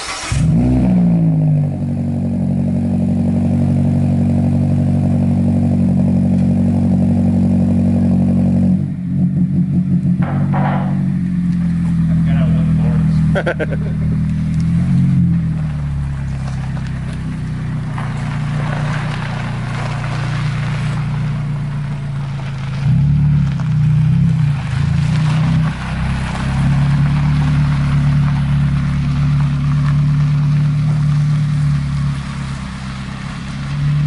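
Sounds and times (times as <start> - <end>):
car engine droning: 0.0 - 34.0.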